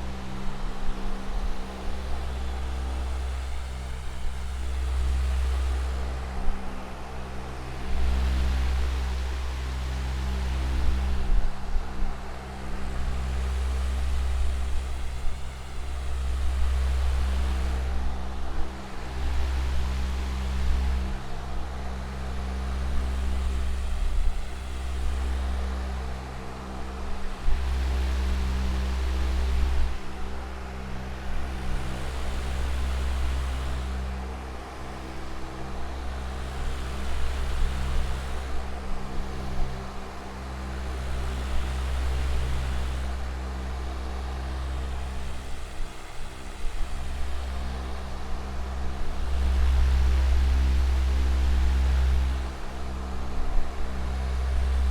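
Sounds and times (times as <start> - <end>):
electric fan running: 0.0 - 54.9.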